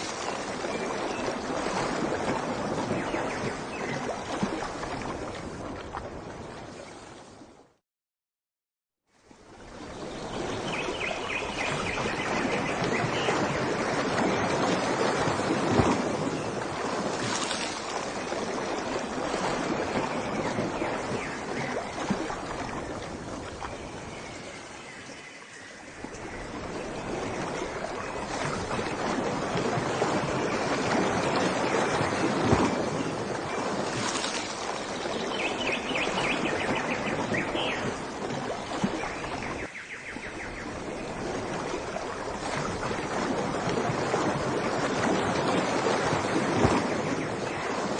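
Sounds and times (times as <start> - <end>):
rushing water: 0.0 - 7.8, 9.1 - 47.9.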